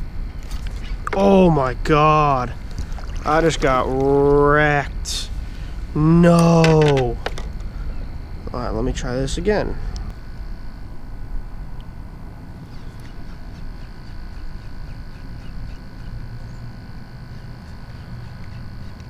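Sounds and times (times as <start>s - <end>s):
high-pitched hum: 0.0s - 19.0s.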